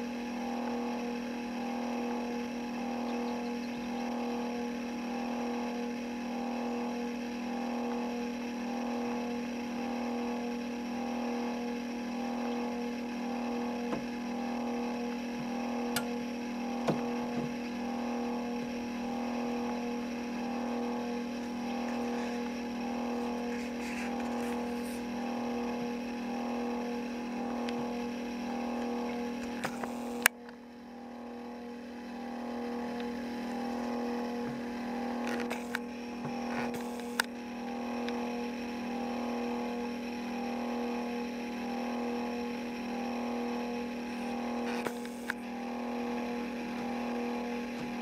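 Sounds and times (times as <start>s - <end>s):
pulsing motor hum: 0.0s - 48.0s.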